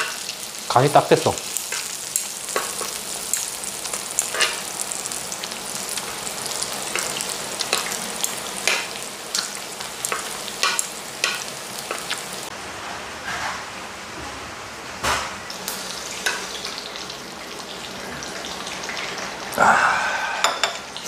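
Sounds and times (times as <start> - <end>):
food sizzling on griddle pan: 0.0 - 12.5, 15.5 - 21.0.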